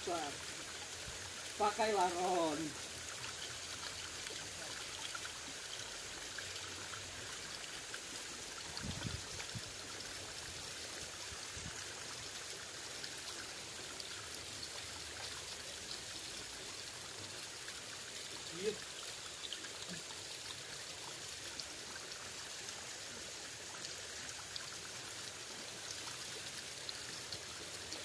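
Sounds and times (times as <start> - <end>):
stream water rushing and trickling: 0.0 - 28.0.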